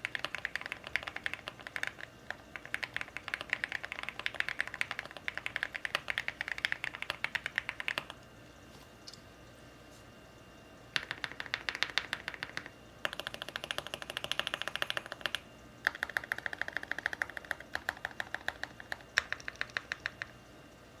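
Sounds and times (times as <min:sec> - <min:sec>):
mechanical keyboard typing: 0:00.0 - 0:08.2, 0:11.0 - 0:20.3.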